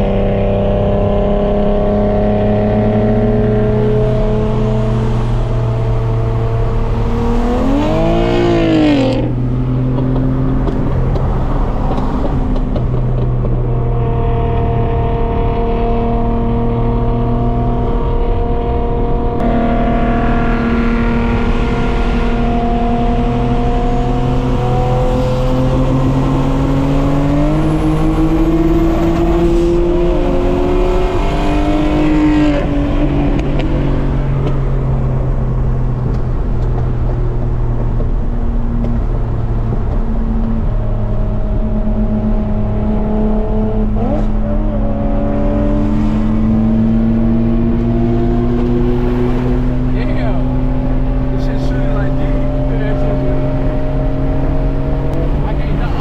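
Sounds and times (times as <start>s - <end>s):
car engine drone from cabin: 0.0s - 56.0s
tyre and road noise: 0.0s - 56.0s.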